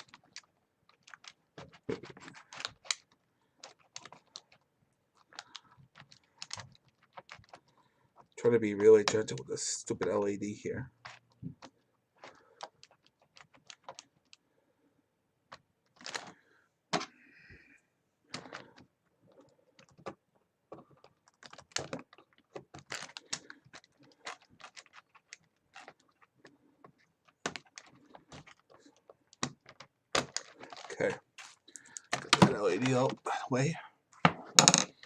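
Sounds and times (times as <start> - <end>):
plastic clicks and rattles: 0.0 - 4.6, 5.2 - 9.5, 11.0 - 14.4, 15.5 - 16.4, 18.3 - 33.2.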